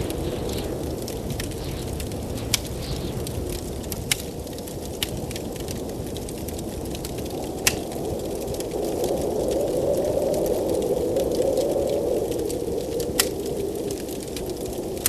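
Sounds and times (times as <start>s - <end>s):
blizzard wind rushing: 0.0s - 15.0s
wood fire crackling: 0.0s - 15.0s.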